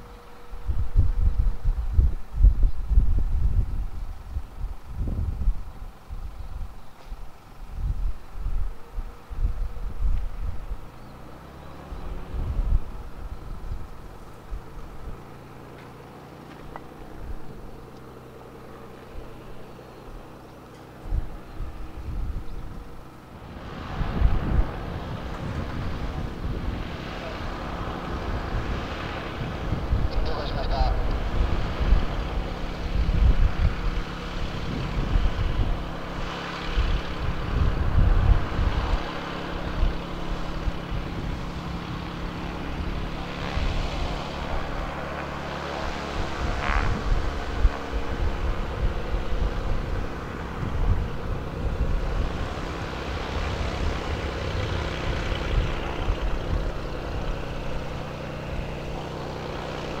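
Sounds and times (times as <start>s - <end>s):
propeller plane engine running: 0.0s - 60.0s.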